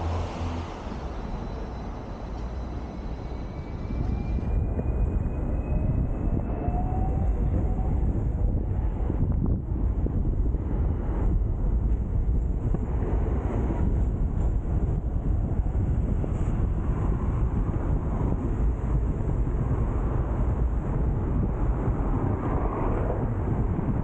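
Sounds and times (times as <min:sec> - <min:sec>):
tram running on rails: 0:00.0 - 0:24.0
wind buffeting microphone: 0:03.1 - 0:24.0.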